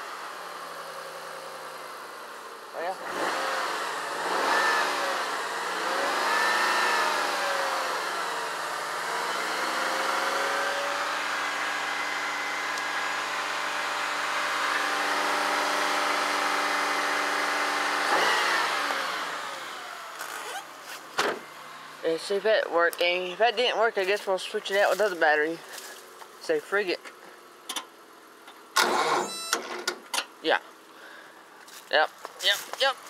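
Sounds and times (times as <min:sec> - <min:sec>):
car engine revving and idling: 0:00.0 - 0:29.4.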